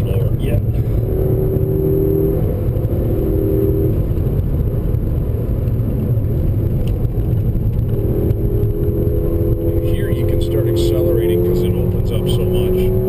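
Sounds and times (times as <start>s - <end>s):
car engine running under load: 0.0s - 13.0s
road and tyre rumble: 0.0s - 13.0s.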